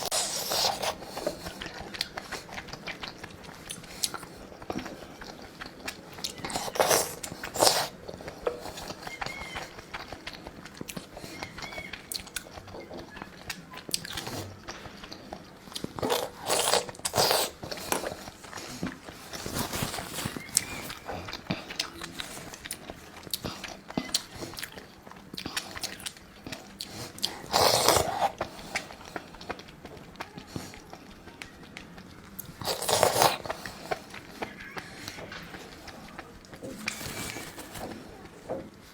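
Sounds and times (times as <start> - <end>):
slurping: 0.0 - 29.6, 32.3 - 38.9
person biting and chewing food: 0.0 - 29.7, 32.2 - 38.2.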